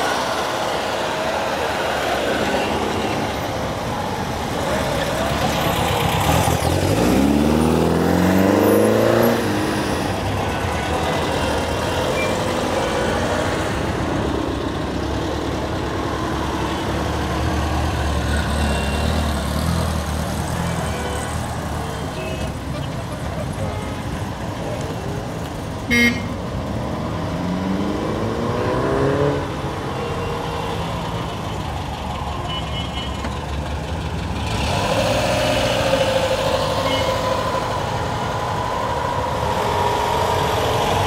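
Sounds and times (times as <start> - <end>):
cars driving slowly past: 0.0 - 41.0.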